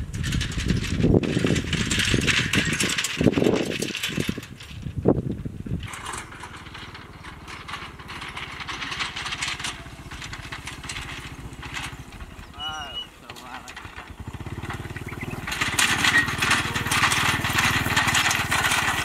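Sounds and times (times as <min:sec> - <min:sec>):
small motorcycle engine running: 0:00.0 - 0:19.0
trailer cart rattling and knocking: 0:00.0 - 0:19.0.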